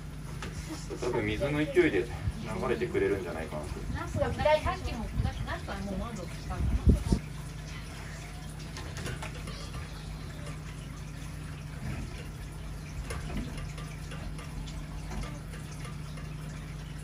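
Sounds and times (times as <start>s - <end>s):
steady low hum: 0.0s - 17.0s
water rushing down a drain: 1.0s - 17.0s.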